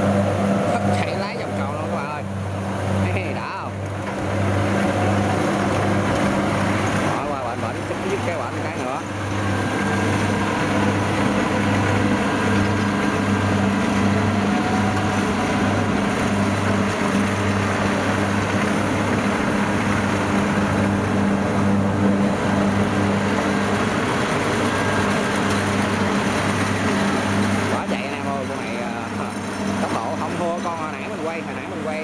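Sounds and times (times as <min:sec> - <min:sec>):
combine harvester engine hum: 0:00.0 - 0:32.0
machine works noise: 0:00.0 - 0:32.0.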